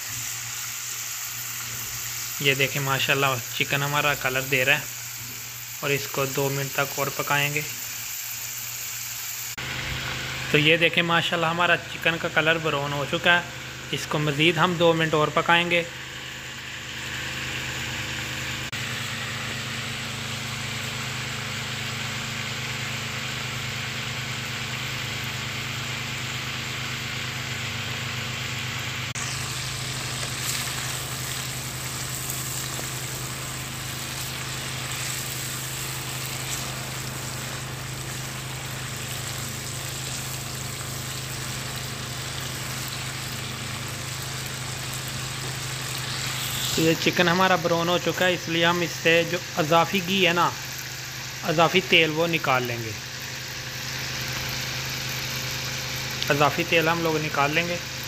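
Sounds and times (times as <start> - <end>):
chicken sizzling in a wok: 0.0 - 58.0.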